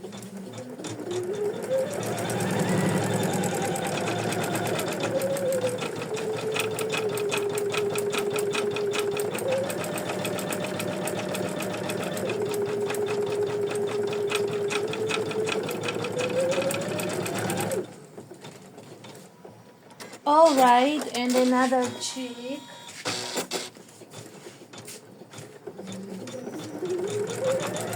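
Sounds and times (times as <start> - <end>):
embroidery machine stitching: 0.0 - 27.9.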